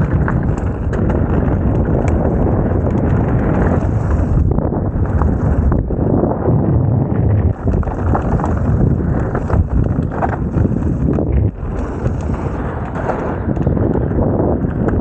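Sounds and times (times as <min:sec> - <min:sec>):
bike rattling over bumps: 0:00.0 - 0:15.0
bike tyres on dirt trail: 0:00.0 - 0:15.0
wind buffeting microphone: 0:00.0 - 0:15.0.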